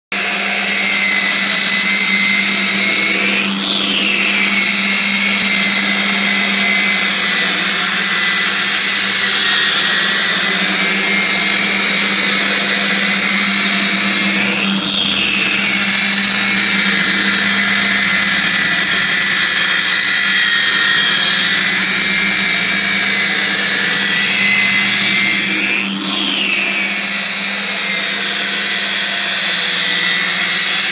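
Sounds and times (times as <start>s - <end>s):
angle grinder whining on sheet metal: 0.1s - 30.9s.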